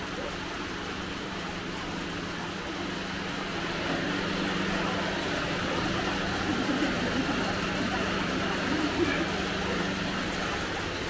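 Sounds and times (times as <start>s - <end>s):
low motor hum: 0.6s - 11.0s.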